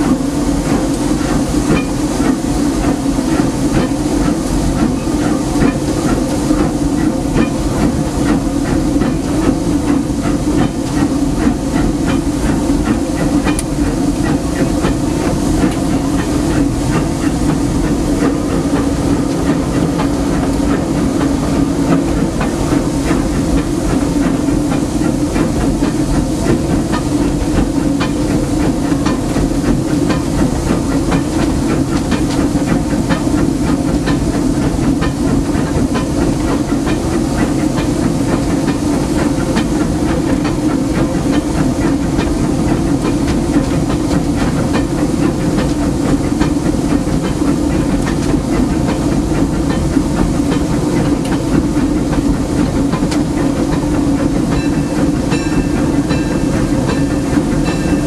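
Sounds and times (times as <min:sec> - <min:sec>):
hiss of steam: 0:00.0 - 0:58.0
steam locomotive running rumble: 0:00.0 - 0:58.0.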